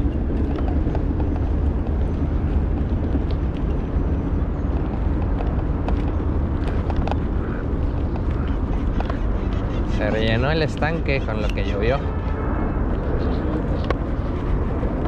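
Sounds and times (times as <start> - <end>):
bicycle rumbling in motion: 0.0 - 15.0.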